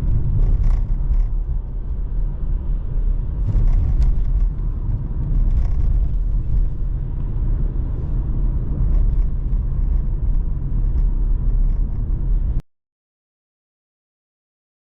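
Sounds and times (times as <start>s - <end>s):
car engine low rumble: 0.0s - 12.6s
road noise: 0.0s - 12.6s.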